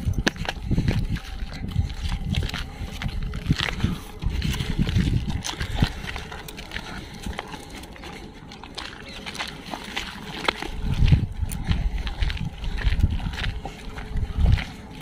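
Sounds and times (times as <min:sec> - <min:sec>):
footsteps on gravel: 0:00.0 - 0:15.0
low rumble: 0:00.0 - 0:15.0.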